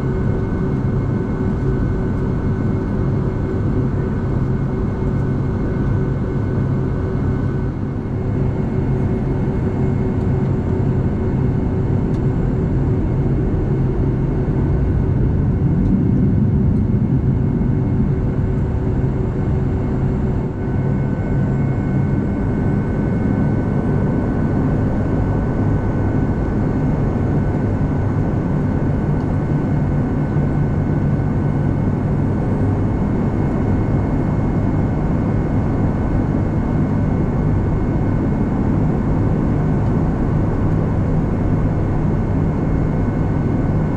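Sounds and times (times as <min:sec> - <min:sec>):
jet engines rumbling in cabin: 0:00.0 - 0:43.9.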